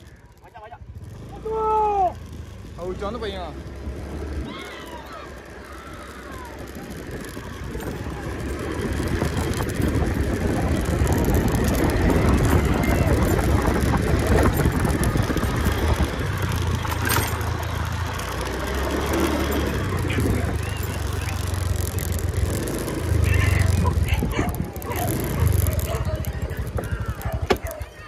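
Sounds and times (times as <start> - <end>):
road rumble: 0.0 - 28.0
vehicle engine running: 0.0 - 28.0
wind: 0.0 - 28.0.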